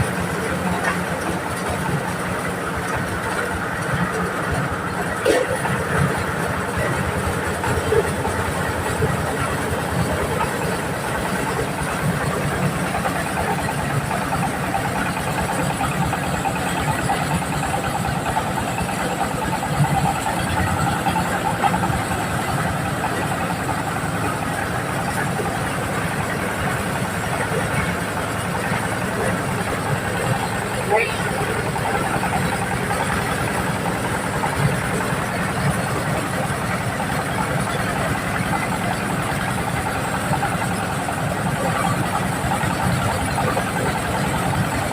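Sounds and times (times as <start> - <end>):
corn sheller engine running: 0.0 - 44.9.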